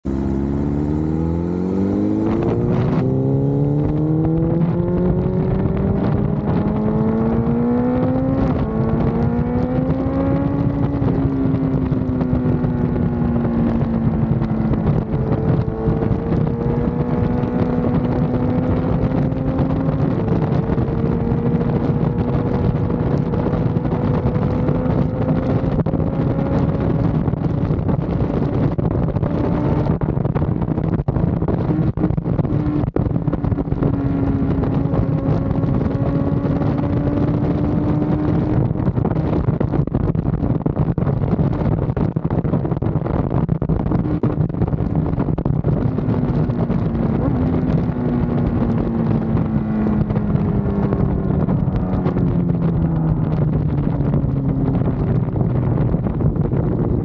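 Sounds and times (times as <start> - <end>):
motorcycle engine accelerating: 0.0 - 57.0
wind rushing over microphone: 0.0 - 57.0.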